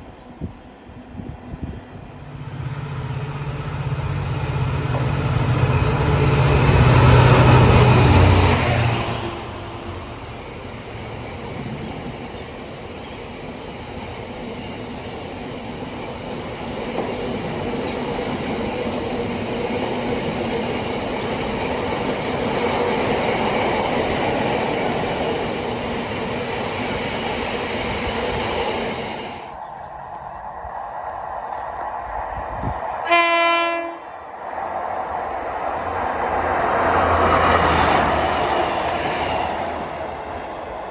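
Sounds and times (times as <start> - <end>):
train rumbling past on rails: 0.0 - 40.9.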